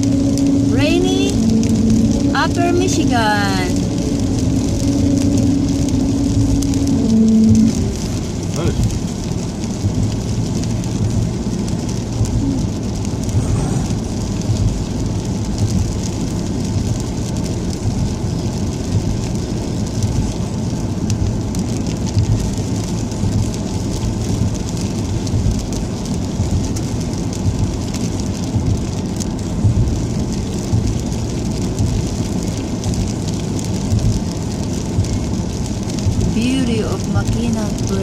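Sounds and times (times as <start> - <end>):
rain hiss: 0.0 - 38.0
tyres rumbling on wet road: 0.0 - 38.0.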